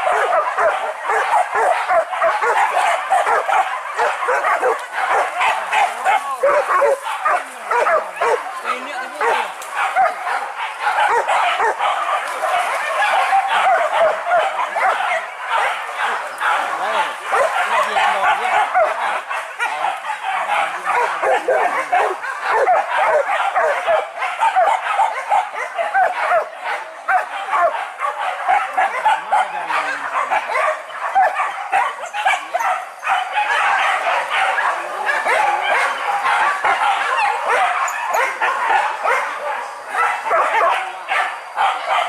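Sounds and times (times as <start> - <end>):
dogs barking and yelping: 0.0 - 42.0.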